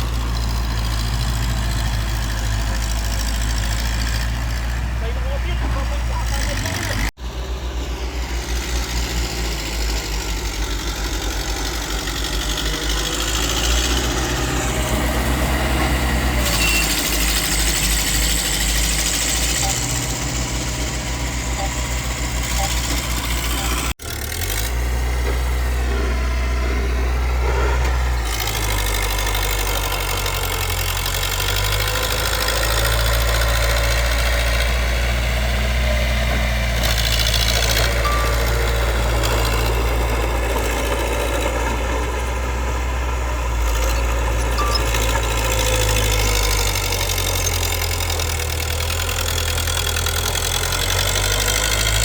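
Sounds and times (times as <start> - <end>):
heavy machinery diesel engine running: 0.0 - 52.0.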